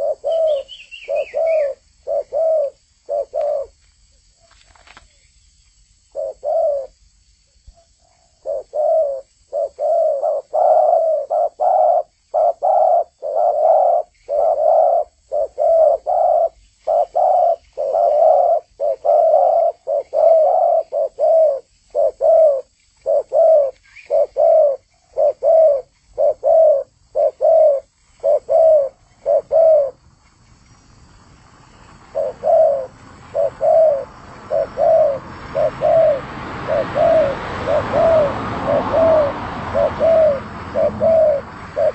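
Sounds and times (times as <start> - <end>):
dove cooing: 0.0 - 3.8, 6.1 - 7.0, 8.1 - 30.0, 32.0 - 41.9.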